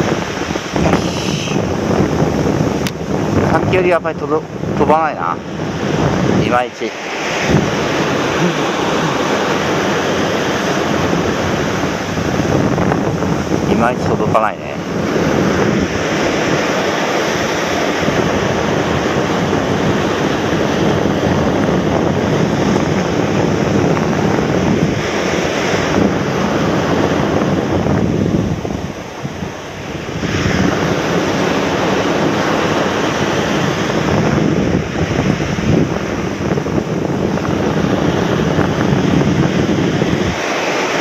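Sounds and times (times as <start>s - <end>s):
surf breaking on sandy beach: 0.0s - 41.0s
wind buffeting microphone: 0.0s - 41.0s.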